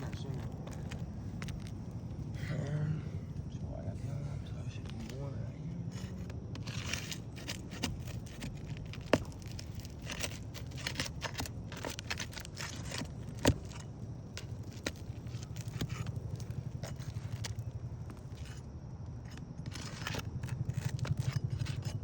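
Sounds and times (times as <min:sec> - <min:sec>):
tool scraping under shingles: 0:00.0 - 0:22.0.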